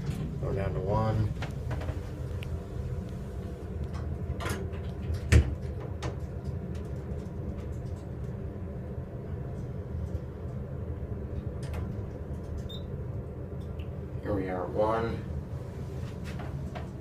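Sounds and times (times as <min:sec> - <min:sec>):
elevator hum: 0:00.0 - 0:17.0.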